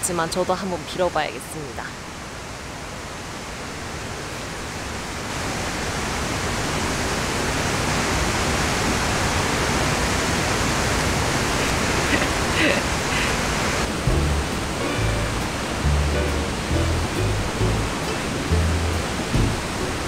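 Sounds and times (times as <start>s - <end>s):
stream flowing over rocks: 0.0s - 20.0s.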